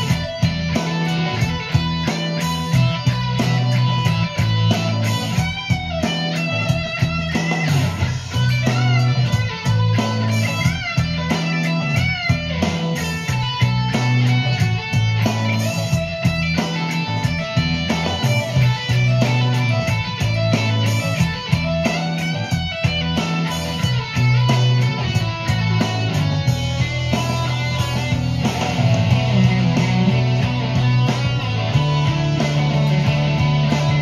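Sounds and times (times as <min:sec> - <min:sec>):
electric guitar playing boogie: 0:00.0 - 0:34.0.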